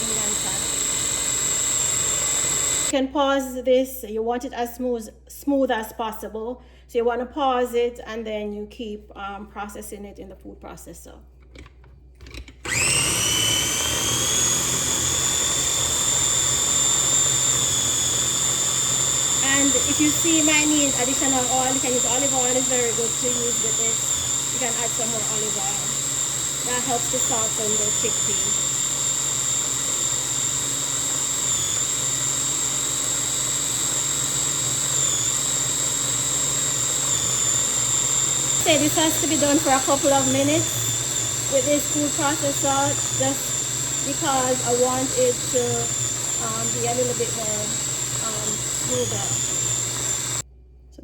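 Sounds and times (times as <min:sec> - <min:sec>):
food processor motor whining: 0:00.0 - 0:03.0, 0:11.5 - 0:50.5.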